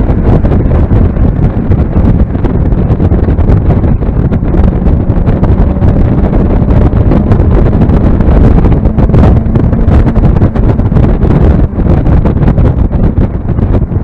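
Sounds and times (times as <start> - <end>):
car engine running: 0.0 - 14.0
wind buffeting microphone: 0.0 - 14.0.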